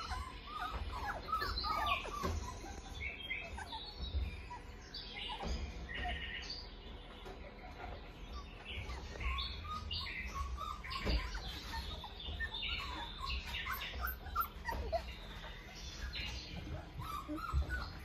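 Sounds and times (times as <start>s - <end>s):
puppies squeaking and whimpering: 0.0s - 18.0s.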